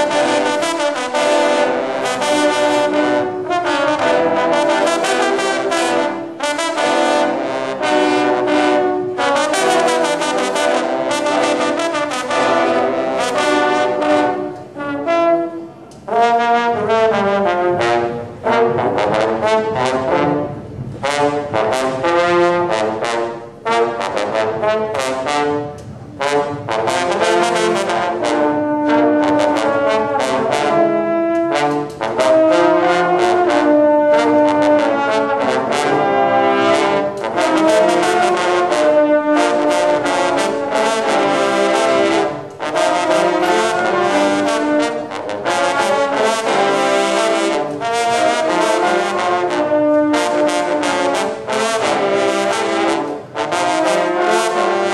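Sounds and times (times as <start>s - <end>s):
baritone horns playing a fanfare: 0.0s - 54.9s.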